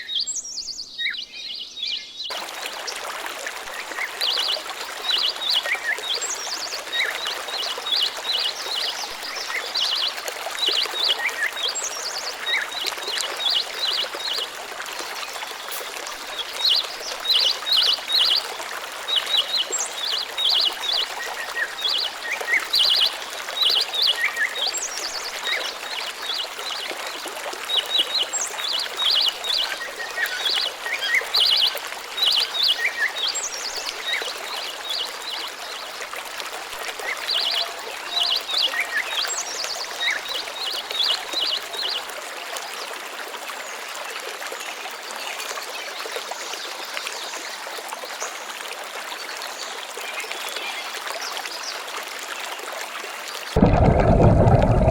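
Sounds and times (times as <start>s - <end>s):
stream flowing: 2.3s - 54.9s.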